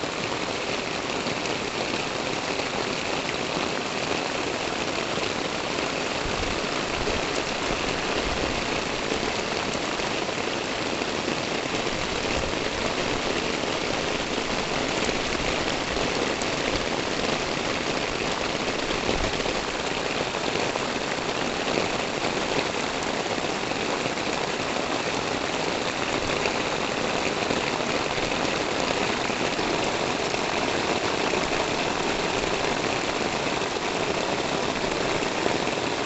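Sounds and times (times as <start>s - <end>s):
rain on concrete and tiles: 0.0s - 36.0s.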